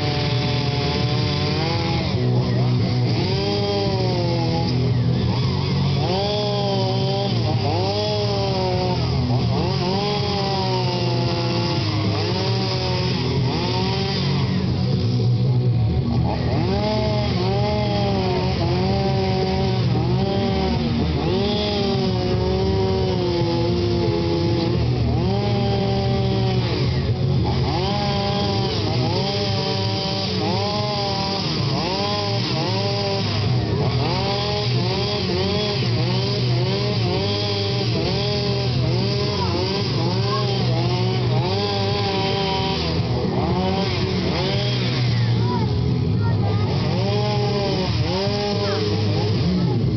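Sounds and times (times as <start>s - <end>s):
chainsaw carving wood: 0.0s - 49.9s.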